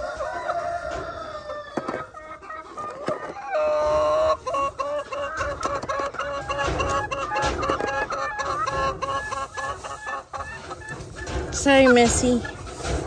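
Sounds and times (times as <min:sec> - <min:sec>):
chickens clucking and calling: 0:00.0 - 0:13.0.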